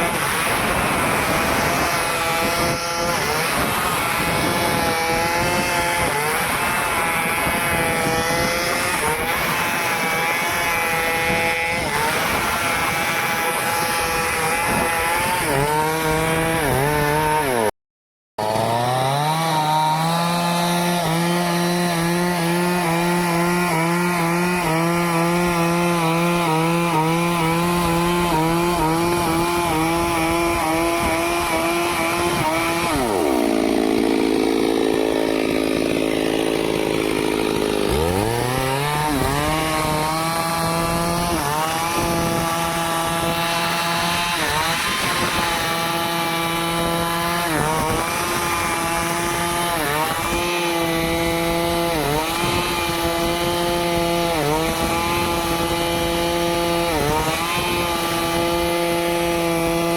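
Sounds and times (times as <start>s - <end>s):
chainsaw cutting wood: 0.0s - 17.7s, 18.4s - 59.9s.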